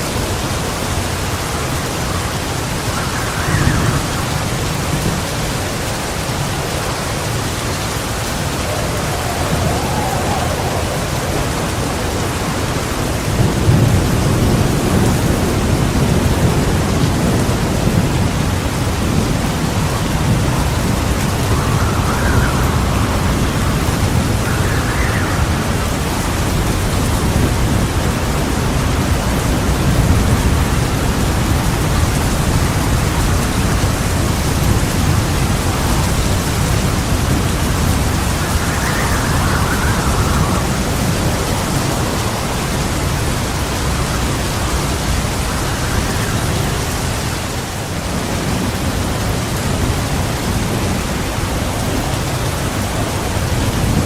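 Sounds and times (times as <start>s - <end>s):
heavy rain: 0.0s - 54.0s
low rumble of thunder: 0.0s - 54.0s.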